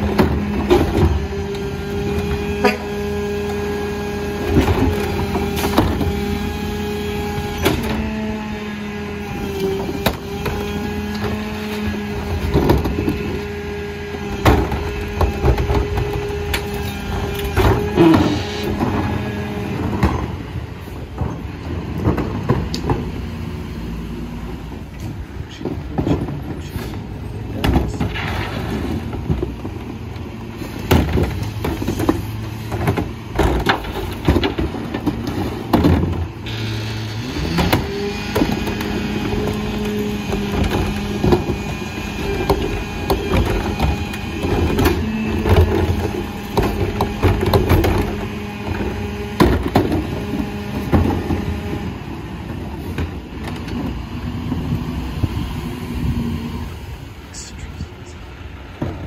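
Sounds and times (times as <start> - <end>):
carts and bags banging on hopper: 0.0 - 56.8, 58.7 - 59.0
diesel engine running: 0.0 - 59.0.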